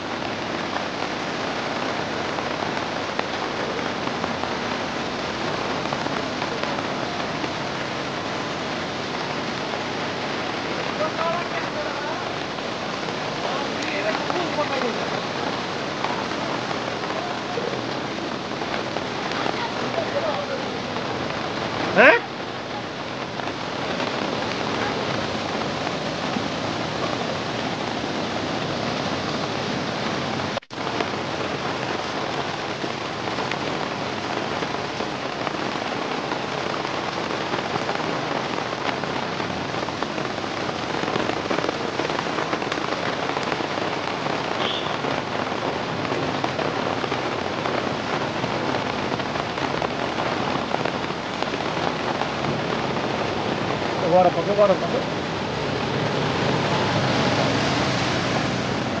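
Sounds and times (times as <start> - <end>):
floodwater running over road: 0.0 - 59.0
heavy rain: 0.0 - 59.0.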